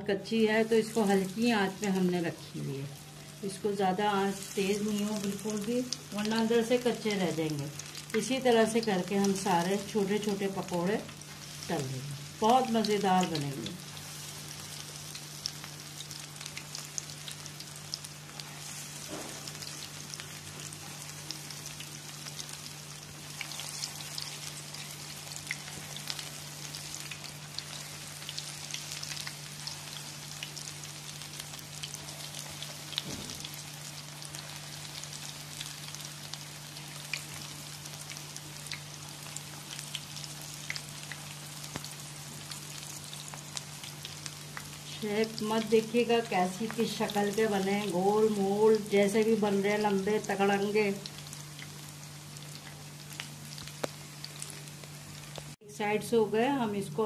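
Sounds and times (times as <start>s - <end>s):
food deep-frying in oil: 0.0s - 57.0s.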